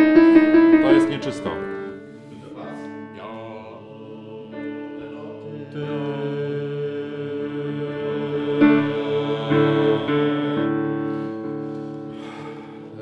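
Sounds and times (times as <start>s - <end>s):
male choir singing unaccompanied: 0.8s - 11.7s.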